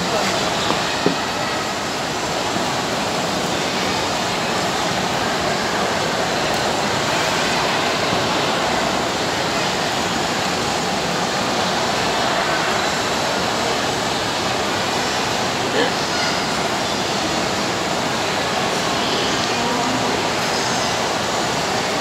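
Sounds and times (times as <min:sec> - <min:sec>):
ice rink background din: 0:00.0 - 0:22.0.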